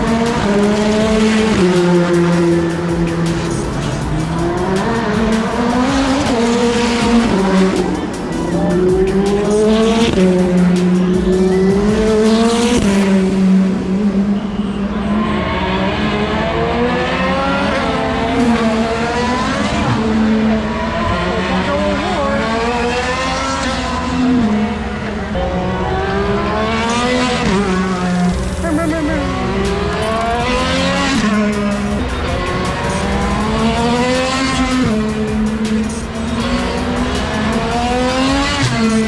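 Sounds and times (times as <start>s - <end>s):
race car engines shifting gears: 0.0s - 39.0s.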